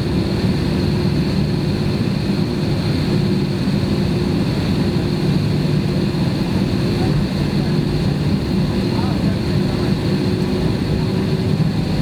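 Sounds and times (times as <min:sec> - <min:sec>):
jet engine cabin noise: 0:00.0 - 0:12.0.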